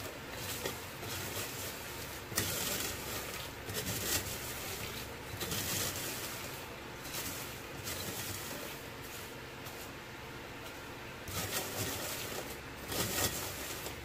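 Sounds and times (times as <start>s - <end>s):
peanuts clattering in plastic colander: 0.0s - 8.8s, 11.3s - 14.0s.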